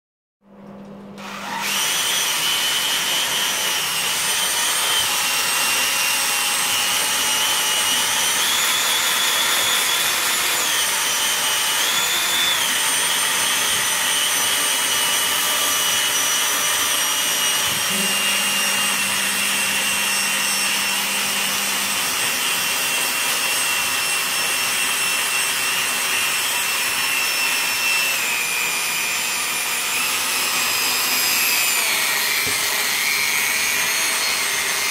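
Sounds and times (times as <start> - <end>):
drill motor whine: 1.2 - 34.9.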